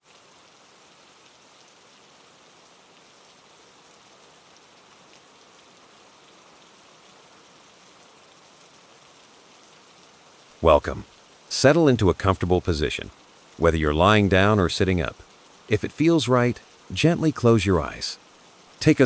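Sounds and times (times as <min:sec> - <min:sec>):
gentle rainfall: 0:00.0 - 0:19.0.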